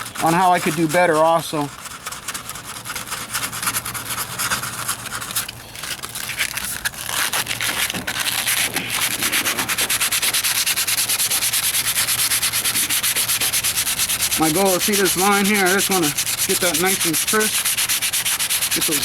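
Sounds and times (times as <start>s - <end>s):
sandpaper rubbing on filler: 0.0s - 19.0s.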